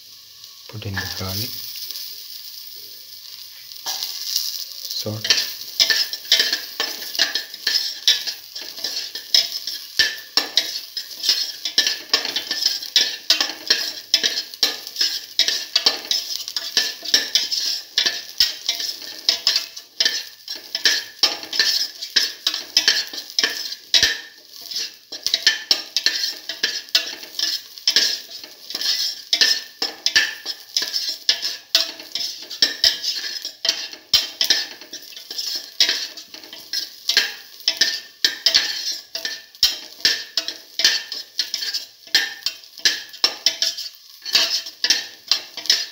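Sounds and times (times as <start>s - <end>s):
oil sizzling: 0.0s - 45.9s
spatula scraping metal pot: 5.2s - 45.9s.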